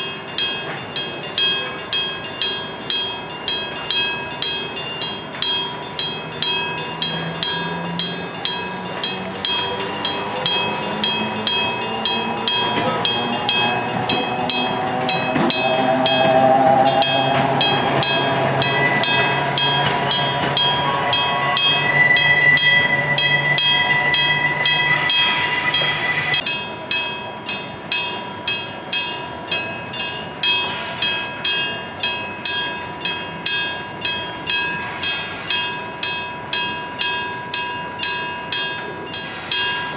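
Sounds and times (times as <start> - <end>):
level-crossing bell striking: 0.0 - 39.9
train passing with rumble: 0.0 - 39.9.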